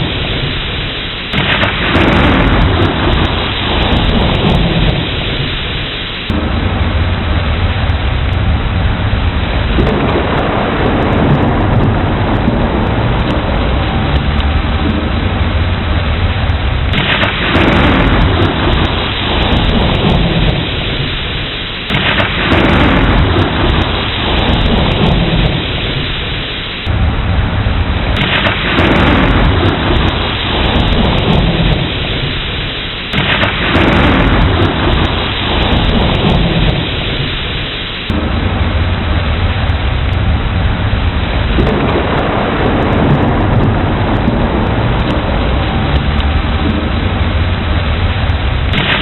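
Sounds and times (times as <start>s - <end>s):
heavy rain: 0.0s - 49.0s
thunder rolling: 0.0s - 49.0s.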